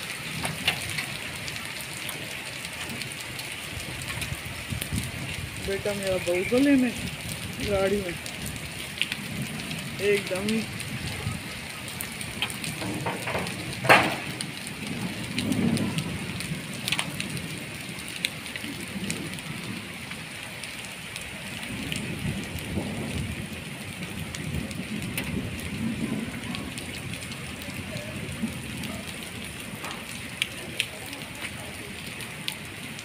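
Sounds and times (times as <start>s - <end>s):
hail clicking on concrete: 0.0s - 33.0s
heavy rain on concrete: 0.0s - 33.0s.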